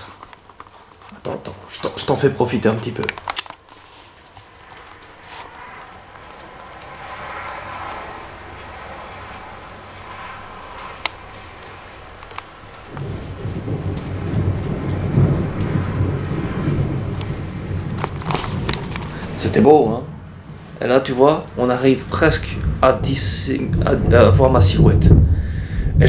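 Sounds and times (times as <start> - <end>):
rain falling steadily: 0.0 - 26.0
thunder rumbling: 0.0 - 26.0.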